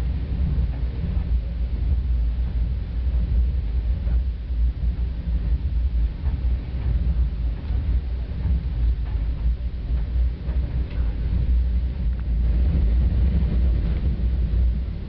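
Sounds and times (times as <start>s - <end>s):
train car low rumble: 0.0s - 15.0s.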